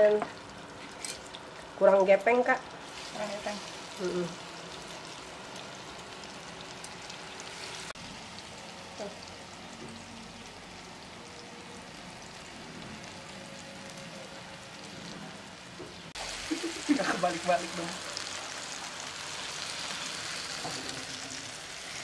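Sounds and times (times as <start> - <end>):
banana frying with sizzle: 0.0 - 22.0.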